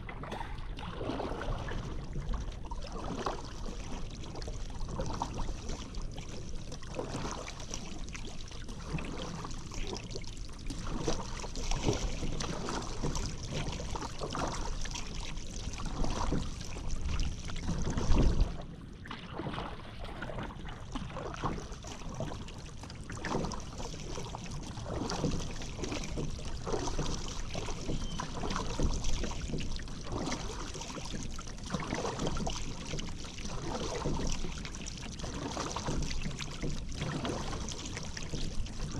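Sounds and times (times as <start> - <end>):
paddle splashing in water: 0.0 - 38.9.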